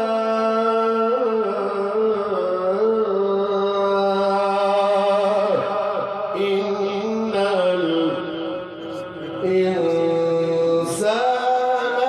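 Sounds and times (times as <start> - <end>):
man reciting a long melismatic note: 0.0 - 12.0.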